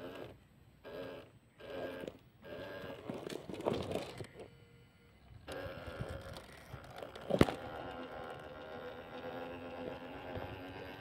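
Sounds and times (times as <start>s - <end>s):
electric motor and gears whining: 0.0s - 11.0s.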